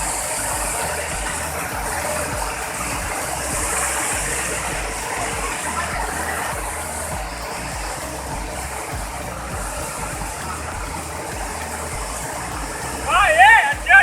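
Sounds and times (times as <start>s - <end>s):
waterfall rushing and crashing: 0.0s - 14.0s.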